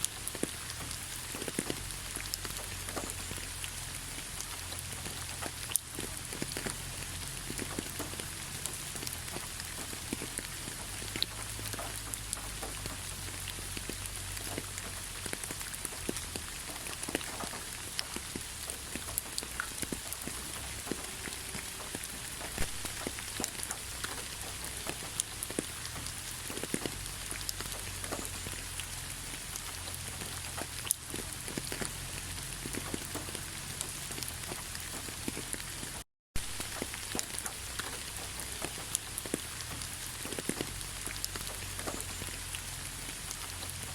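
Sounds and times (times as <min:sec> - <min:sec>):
rain hissing: 0:00.0 - 0:43.9
raindrops ticking: 0:00.0 - 0:43.9.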